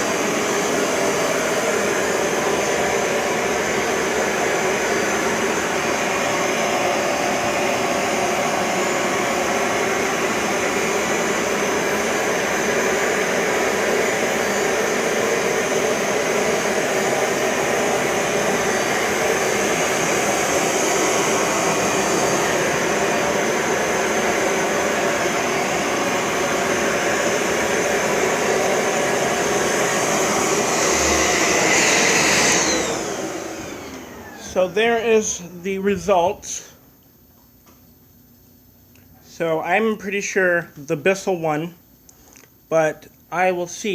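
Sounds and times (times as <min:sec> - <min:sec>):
carpet cleaner suction motor whine: 0:00.0 - 0:36.6.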